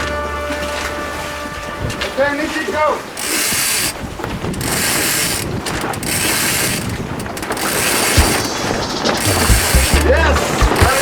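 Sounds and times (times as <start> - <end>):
sailboat rigging ratcheting: 0.0 - 11.0.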